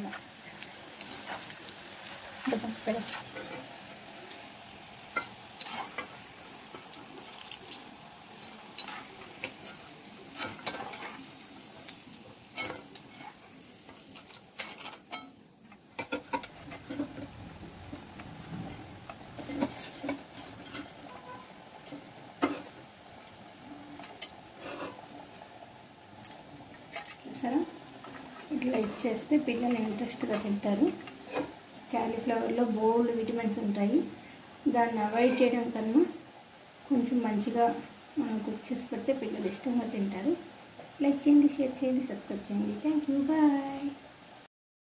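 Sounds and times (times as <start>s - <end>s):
oil sizzling while deep-frying: 0.0s - 44.5s.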